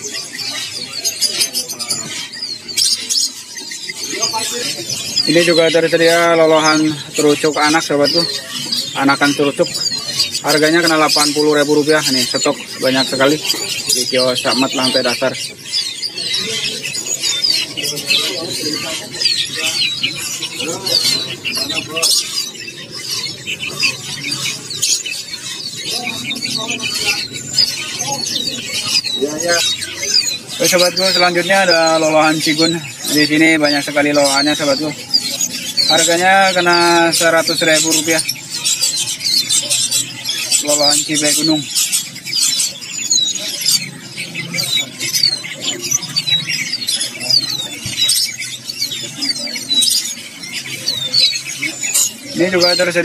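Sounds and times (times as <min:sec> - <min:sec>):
low background murmur: 0:00.0 - 0:53.0
nestlings squeaking: 0:00.0 - 0:53.0
songbirds chirping and twittering: 0:00.0 - 0:53.0.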